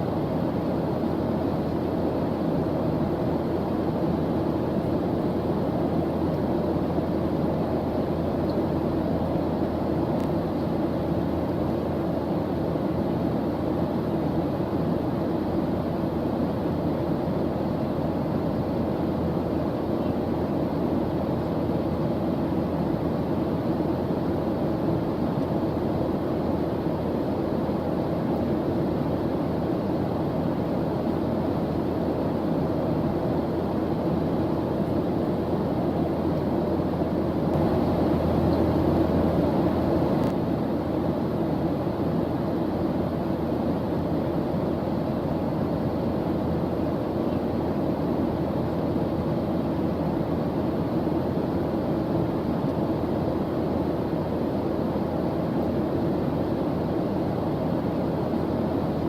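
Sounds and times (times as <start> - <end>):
deep rumbling white noise: 0.0 - 59.0.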